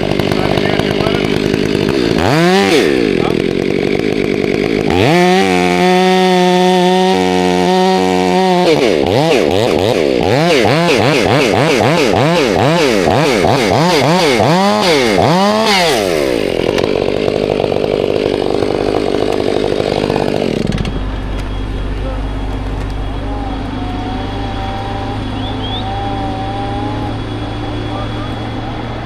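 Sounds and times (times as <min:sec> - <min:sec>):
chainsaw revving: 0:00.0 - 0:29.0.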